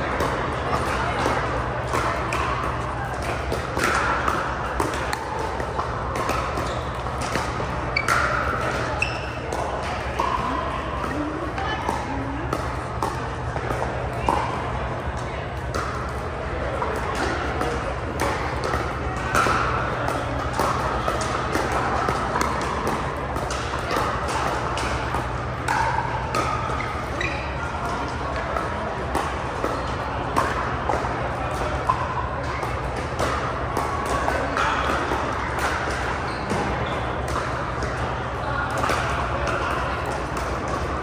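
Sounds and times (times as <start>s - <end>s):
background chatter: 0.0s - 41.0s
murmur of voices: 0.0s - 41.0s
paddles hitting balls: 0.0s - 41.0s.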